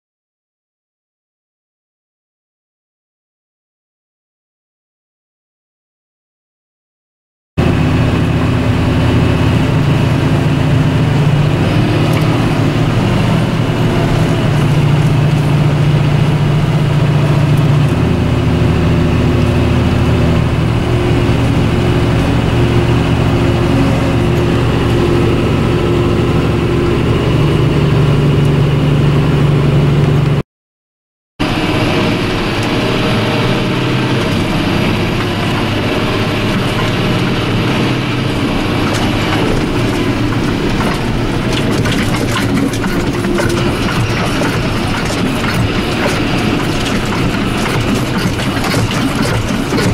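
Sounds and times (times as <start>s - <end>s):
tractor diesel engine running: 7.6s - 30.4s, 31.4s - 49.9s.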